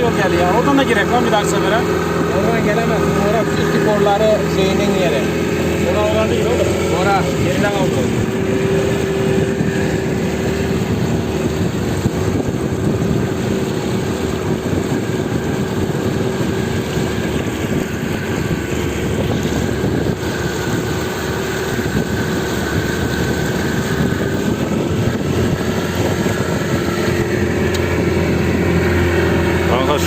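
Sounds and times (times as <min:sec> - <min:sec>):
boat motor running: 0:00.0 - 0:30.0
water rushing: 0:00.0 - 0:30.0.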